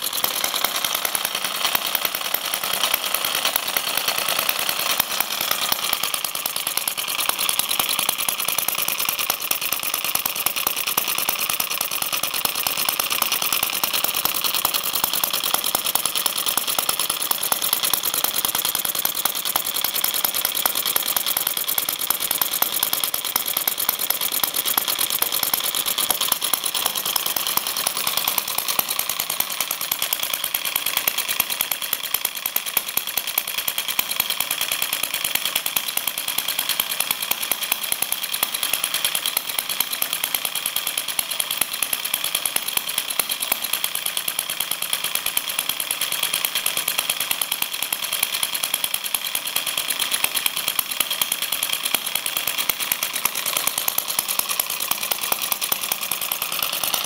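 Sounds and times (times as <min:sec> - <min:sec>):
model engine running: 0:00.0 - 0:57.0.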